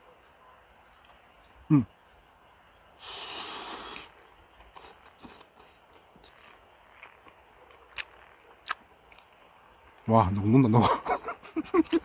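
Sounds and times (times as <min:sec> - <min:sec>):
quiet chewing: 0:00.1 - 0:10.1.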